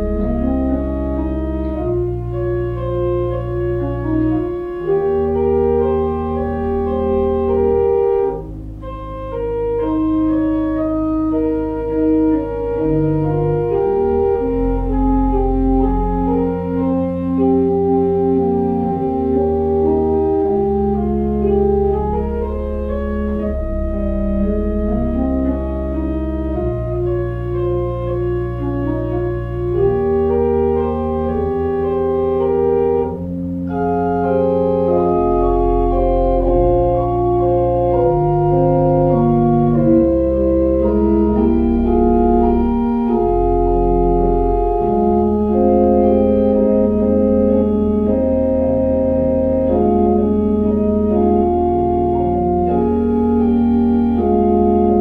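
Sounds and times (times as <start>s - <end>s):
church organ chords: 0.0s - 55.0s.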